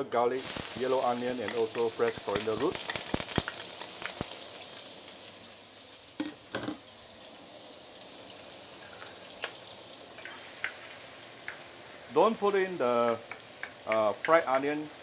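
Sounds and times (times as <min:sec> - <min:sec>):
food sizzling in hot oil: 0:00.3 - 0:15.0.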